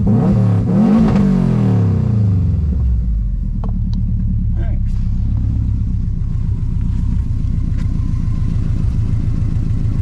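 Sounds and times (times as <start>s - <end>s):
car engine idling: 1.9s - 10.0s.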